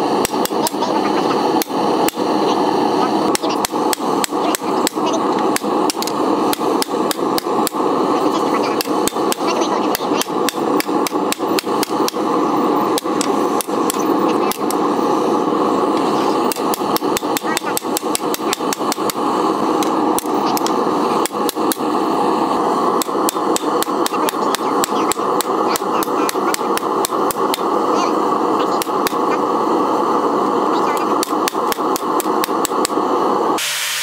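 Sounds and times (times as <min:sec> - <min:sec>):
steady rushing noise: 0:00.0 - 0:33.6.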